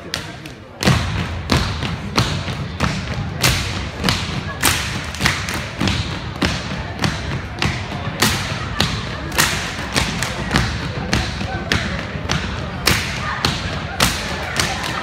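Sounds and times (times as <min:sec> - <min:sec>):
voices: 0:00.0 - 0:15.0
stomps and claps on wooden floor: 0:00.1 - 0:15.0.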